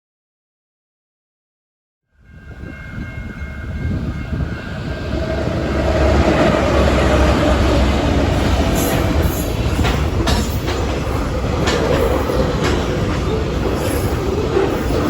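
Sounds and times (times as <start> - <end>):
freight train engine rumble: 2.2 - 15.0
train wheel noise: 2.3 - 15.0.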